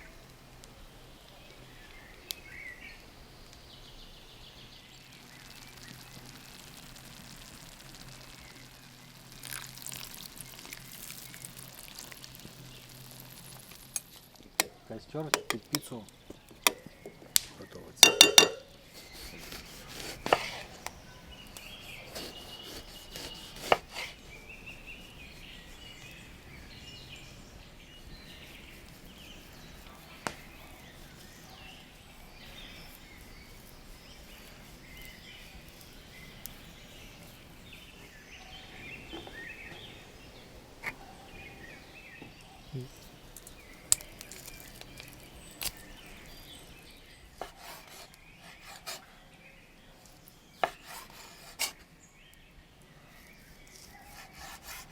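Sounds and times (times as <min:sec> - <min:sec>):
campfire wood cracking and popping: 0:00.0 - 0:27.3, 0:28.0 - 0:49.0
birds chirping: 0:00.0 - 0:54.9.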